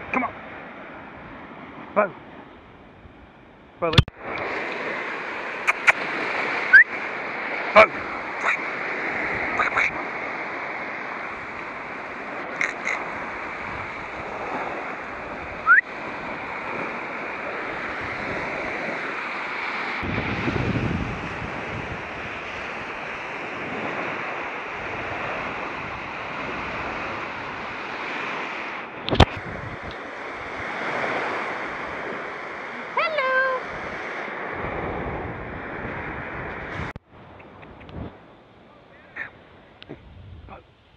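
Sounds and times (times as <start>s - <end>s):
wind buffeting microphone: 0.0s - 40.9s
surf breaking on beach: 3.9s - 40.6s.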